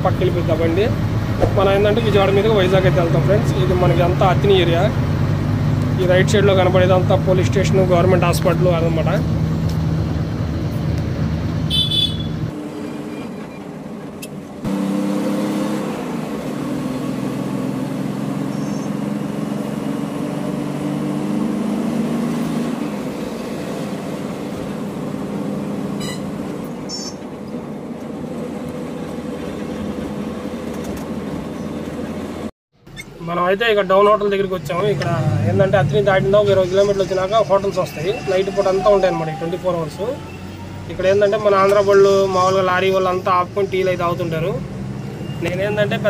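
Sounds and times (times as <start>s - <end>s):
diesel truck engine running: 0.0s - 38.2s.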